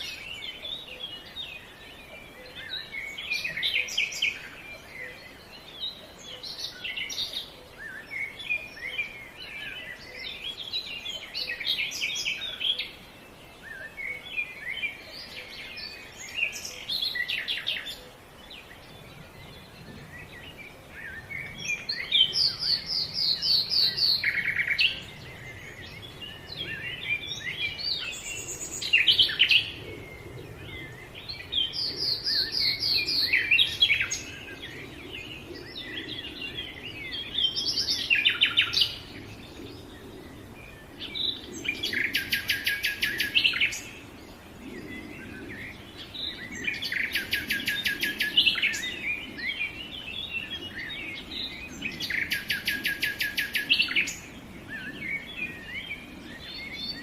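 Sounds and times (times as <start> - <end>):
songbirds chirping and whistling: 0.0 - 57.0.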